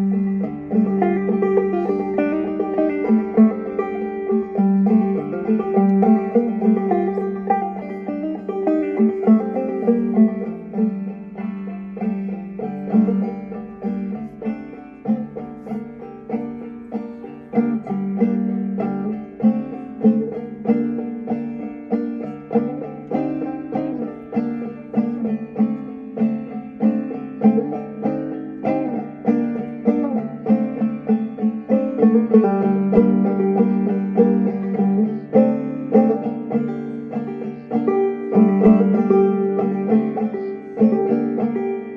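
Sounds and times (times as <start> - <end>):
clawhammer banjo playing: 0.0 - 41.9.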